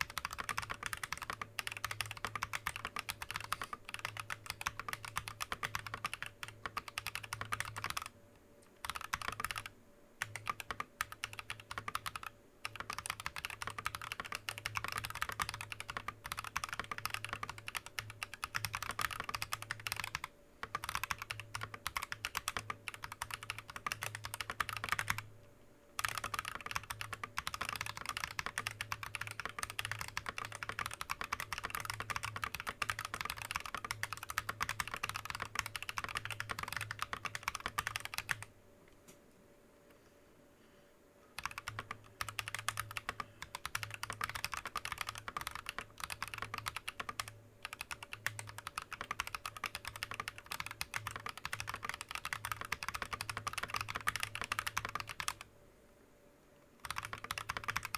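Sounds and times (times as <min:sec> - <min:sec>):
typing on mechanical keyboard: 0:00.0 - 0:08.1, 0:08.8 - 0:25.3, 0:26.0 - 0:38.5, 0:41.4 - 0:55.5, 0:56.8 - 0:57.9.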